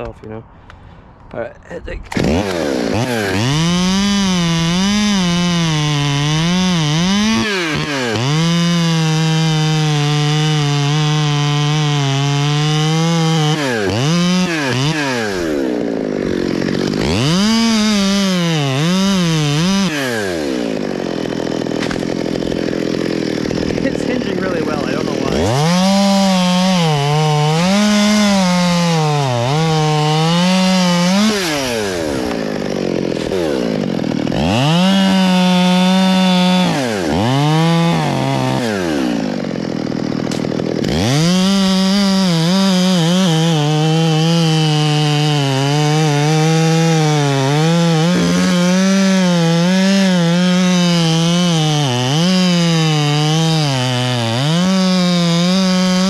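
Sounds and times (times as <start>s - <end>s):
chainsaw cutting wood: 2.0s - 56.0s.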